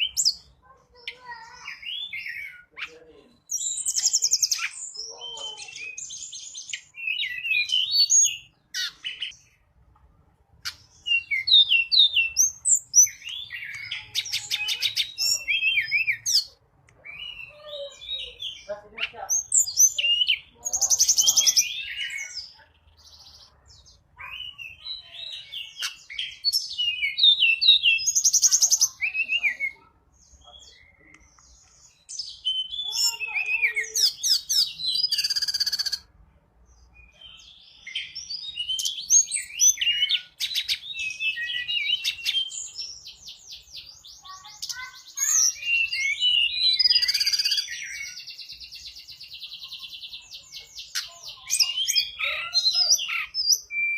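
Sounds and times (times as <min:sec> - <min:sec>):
bird chirping and trilling: 0:00.0 - 0:09.7, 0:10.5 - 0:53.9.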